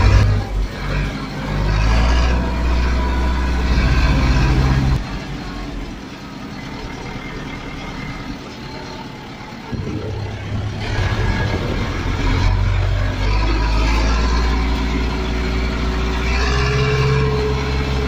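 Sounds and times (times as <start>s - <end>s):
tractor diesel engine drone: 0.0s - 18.0s.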